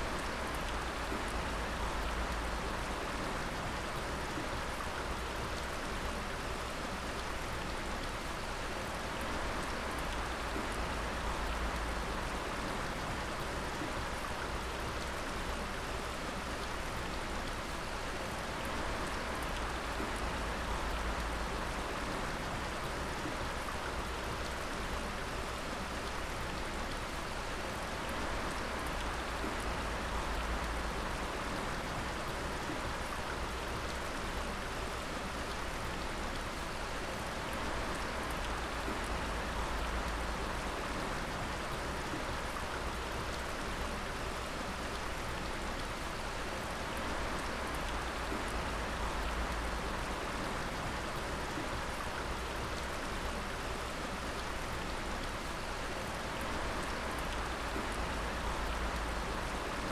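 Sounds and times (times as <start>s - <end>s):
water dripping and splashing: 0.1s - 59.9s.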